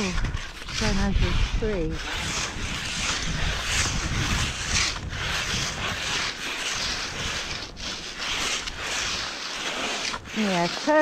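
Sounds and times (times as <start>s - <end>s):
wind rumble on microphone: 0.0s - 9.3s
skis scraping over crusty snow: 0.0s - 11.0s.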